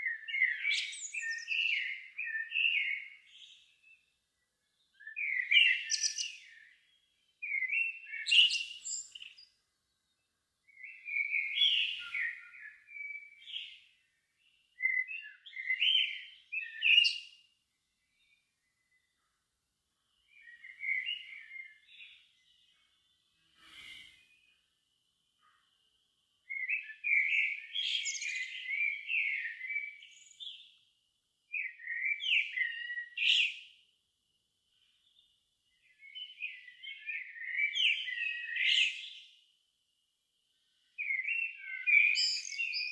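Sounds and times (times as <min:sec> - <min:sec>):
songbird singing: 0:00.0 - 0:30.9, 0:31.5 - 0:42.9.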